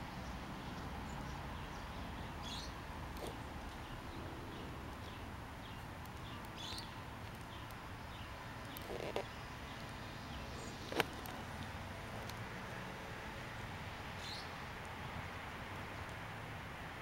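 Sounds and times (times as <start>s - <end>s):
small birds chirping: 0.0s - 12.4s, 13.4s - 16.2s
outdoor background hum: 0.0s - 17.0s.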